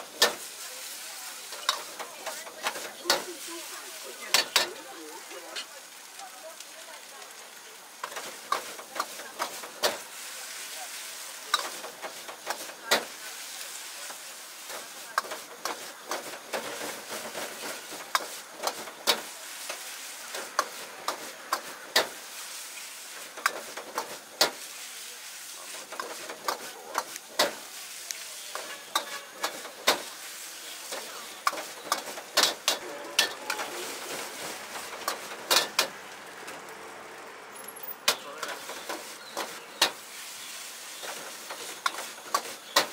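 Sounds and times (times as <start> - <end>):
sizzling in hot wok: 0.0 - 42.9.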